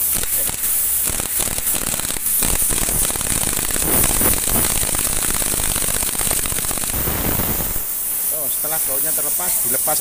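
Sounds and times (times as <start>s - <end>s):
exhaust air hissing: 0.0s - 10.0s.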